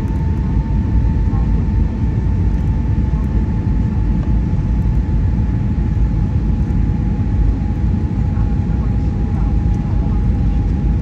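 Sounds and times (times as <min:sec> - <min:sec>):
engine and airflow rumble: 0:00.0 - 0:11.0
steady whine: 0:00.0 - 0:11.0.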